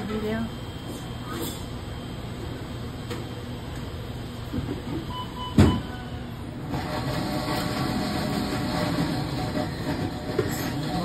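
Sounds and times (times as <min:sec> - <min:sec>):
busy deli counter noise: 0:00.0 - 0:11.0.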